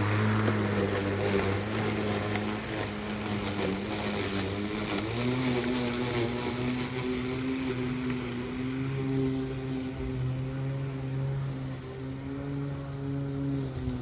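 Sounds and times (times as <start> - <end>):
lawn mower humming: 0.0 - 14.0.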